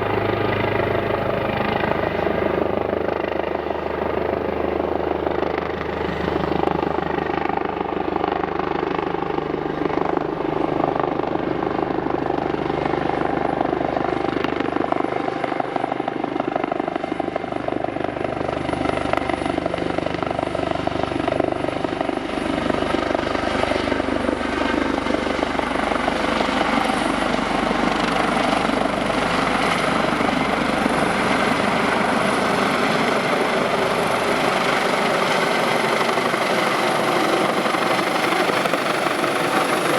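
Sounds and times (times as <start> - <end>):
helicopter rotor noise: 0.0 - 39.9
high turbine whine: 0.0 - 39.9.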